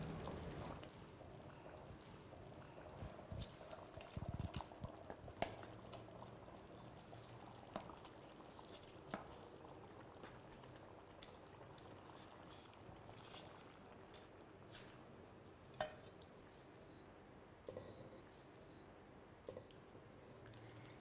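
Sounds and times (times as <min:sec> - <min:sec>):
rice simmering in a pot: 0:00.0 - 0:21.0.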